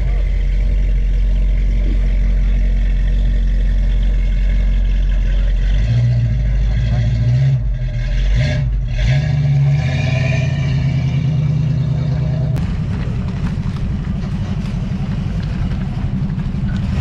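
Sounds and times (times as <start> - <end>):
car engine revving: 0.0 - 17.0
low pulsing engine rumble: 0.0 - 17.0.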